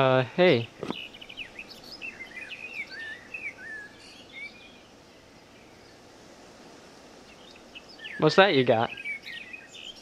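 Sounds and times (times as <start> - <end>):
faint outdoor background: 0.0 - 10.0
songbirds chirping: 0.0 - 10.0.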